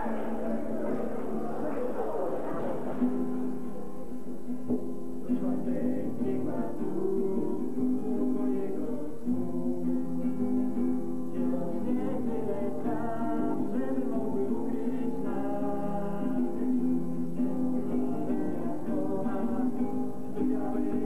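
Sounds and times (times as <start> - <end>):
group of voices singing: 0.0 - 3.3, 5.3 - 10.0, 11.3 - 16.8, 17.4 - 21.0
guitar accompaniment: 0.0 - 21.0.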